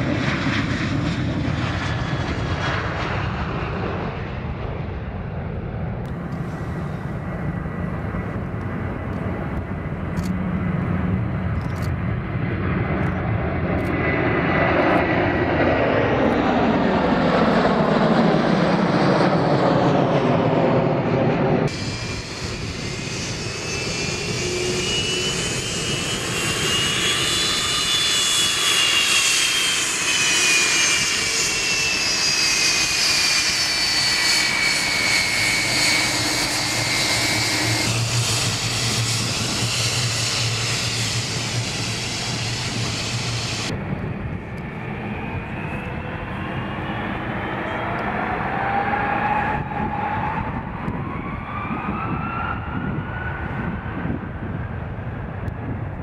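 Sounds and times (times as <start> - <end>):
jet engines whining: 0.0 - 56.0
steady engine rush: 6.0 - 56.0.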